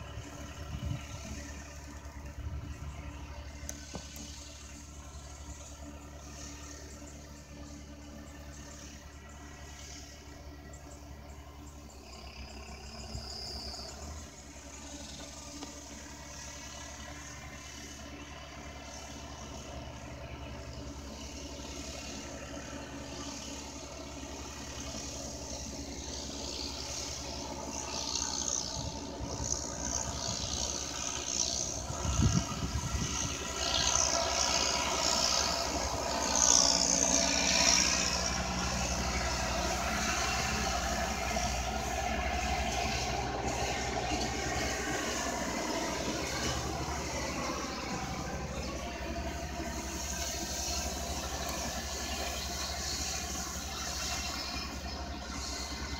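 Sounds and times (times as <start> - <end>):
diesel tractor engines running: 0.0 - 55.9.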